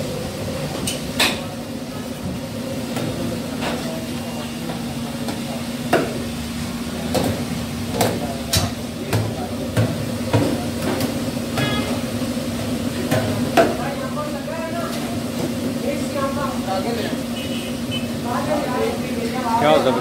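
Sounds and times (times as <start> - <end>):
kitchen equipment hum: 0.0 - 20.0.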